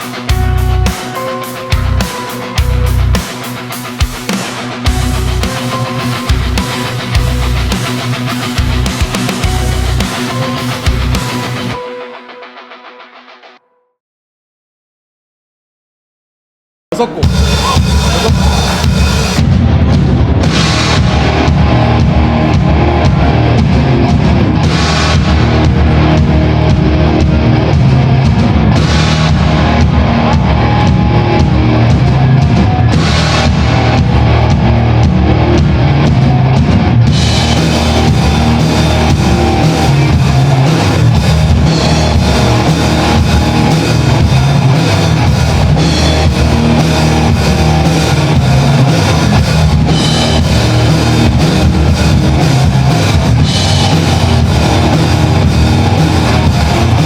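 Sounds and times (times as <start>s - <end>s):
rock band playing: 0.0s - 13.5s, 17.0s - 57.0s.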